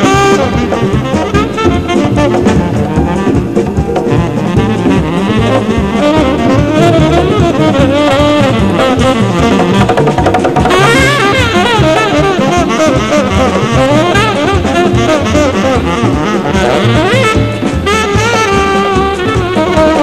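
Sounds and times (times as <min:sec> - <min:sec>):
alto saxophone melody: 0:00.0 - 0:20.0
jazz big band: 0:00.0 - 0:20.0.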